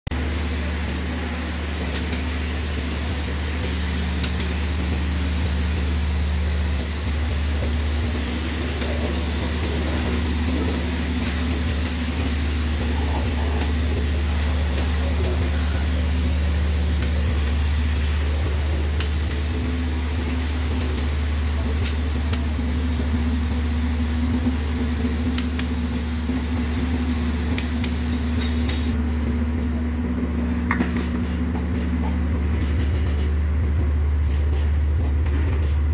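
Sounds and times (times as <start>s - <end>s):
low machine hum: 0.1s - 35.9s.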